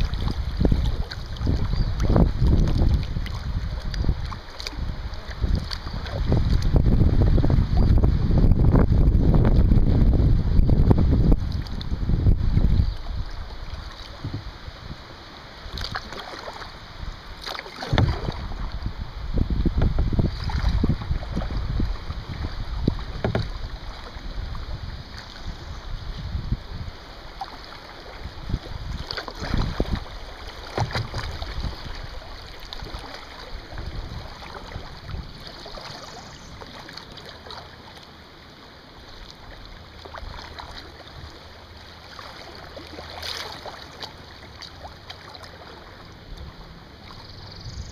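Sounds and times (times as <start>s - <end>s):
wind rumbling on microphone: 0.0s - 37.7s, 45.6s - 47.9s
paddle splashing water: 0.0s - 47.9s
river current riffling: 0.0s - 47.9s.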